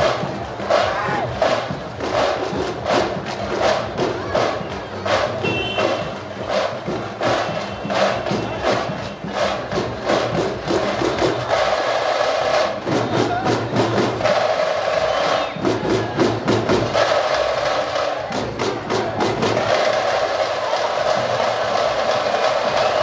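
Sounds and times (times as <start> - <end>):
frame drums beaten with sticks: 0.0 - 23.0.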